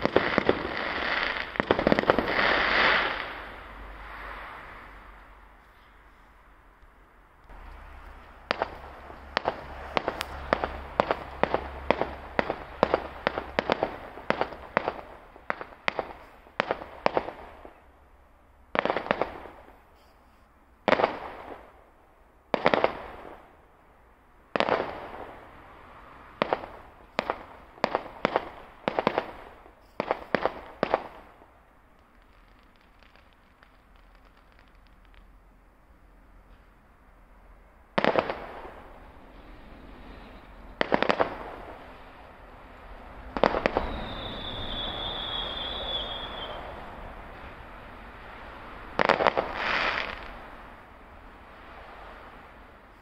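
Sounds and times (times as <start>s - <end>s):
fireworks bangs: 0.0s - 6.2s, 7.5s - 17.9s, 18.7s - 20.2s, 20.8s - 21.8s, 22.5s - 23.6s, 24.5s - 35.4s, 37.8s - 50.6s.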